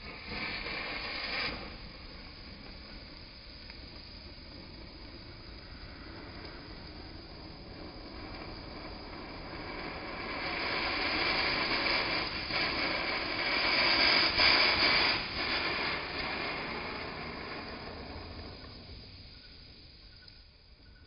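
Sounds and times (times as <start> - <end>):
firework fountain hissing: 0.0 - 21.0.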